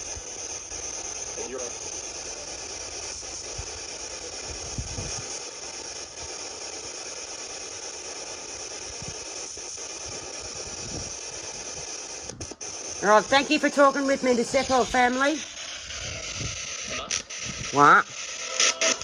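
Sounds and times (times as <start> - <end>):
hissing static: 0.0 - 19.0.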